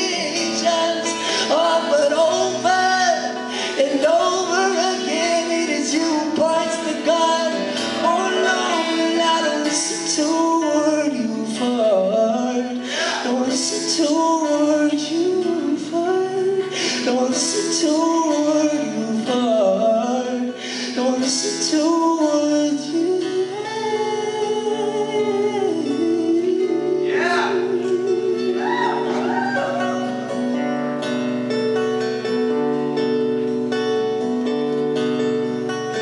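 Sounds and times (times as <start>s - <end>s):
man singing: 0.0s - 30.0s
acoustic guitars: 0.0s - 36.0s.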